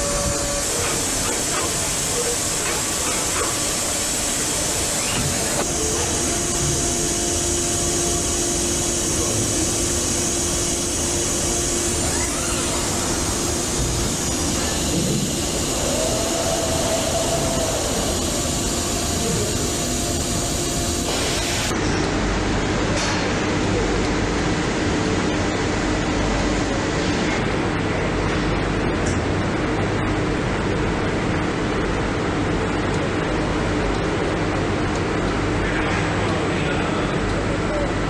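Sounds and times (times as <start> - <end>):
machine hum and hiss: 0.0 - 38.0.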